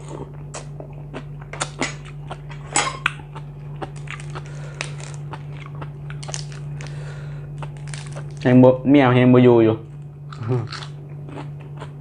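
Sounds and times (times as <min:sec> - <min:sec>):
person chewing crunchy food: 0:00.0 - 0:08.5, 0:10.2 - 0:12.0
steady low hum: 0:00.0 - 0:12.0.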